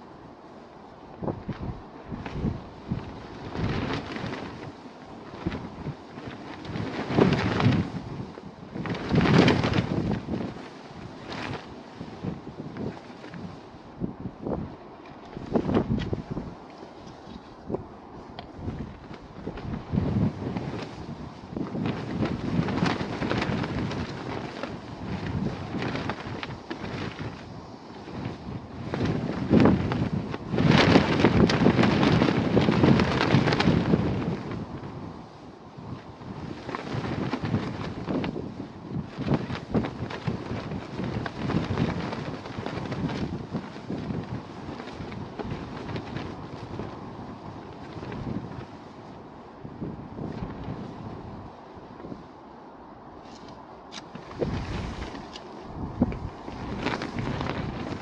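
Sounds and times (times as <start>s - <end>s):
wind buffeting microphone: 0.0s - 58.0s
sharp snaps and rustles: 1.4s - 13.6s, 15.0s - 35.0s, 35.9s - 48.8s, 53.2s - 58.0s.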